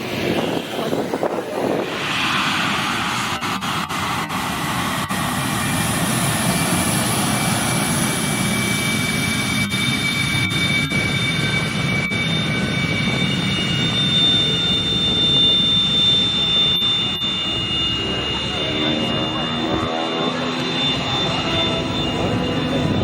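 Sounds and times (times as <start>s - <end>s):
jet engine roaring with high whine: 0.0s - 23.0s.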